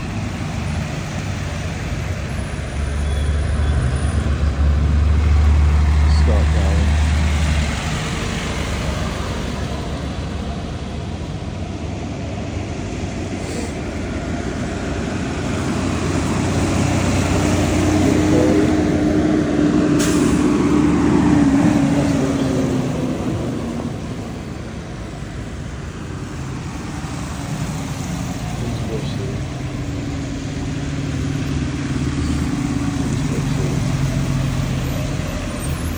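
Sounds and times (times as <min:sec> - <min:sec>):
bus driving past: 0:00.0 - 0:35.9.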